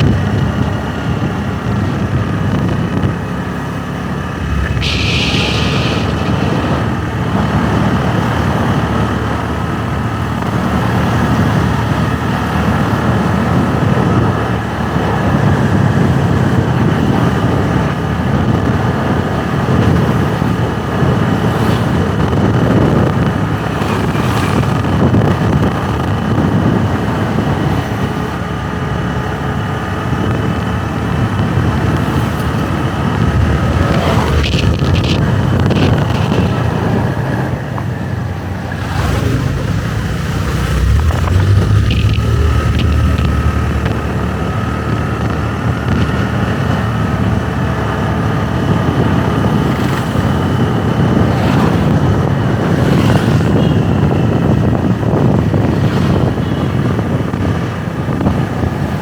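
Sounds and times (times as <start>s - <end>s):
motorbike engine running: 0.0s - 59.0s
road and wind noise: 0.0s - 59.0s.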